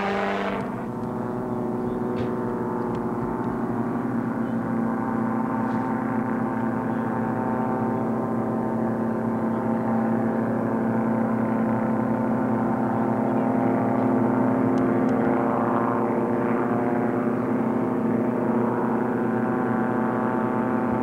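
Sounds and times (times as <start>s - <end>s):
gyroplane engines droning: 0.0s - 21.0s.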